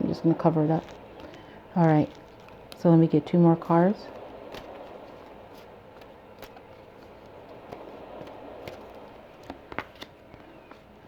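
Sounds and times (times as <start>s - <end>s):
cards tapping and clicking: 0.7s - 11.0s.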